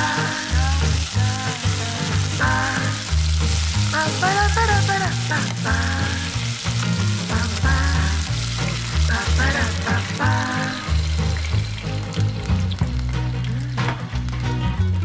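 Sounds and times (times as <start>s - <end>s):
background music: 0.0s - 15.0s
chicken sizzling in oil: 0.0s - 15.0s.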